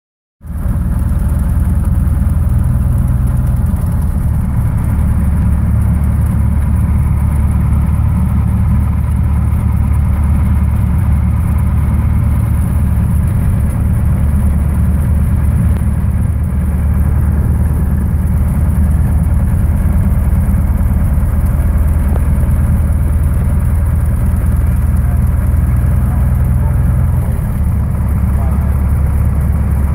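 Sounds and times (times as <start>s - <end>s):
airplane engine and propeller droning: 0.4s - 29.9s.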